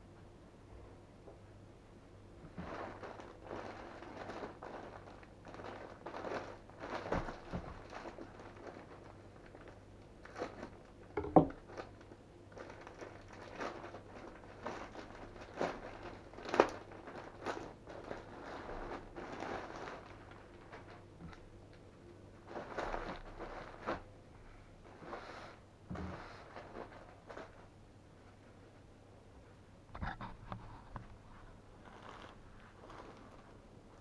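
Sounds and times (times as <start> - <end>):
plastic bag rustling and crinkling: 2.4 - 24.2, 24.8 - 28.4, 31.0 - 34.0.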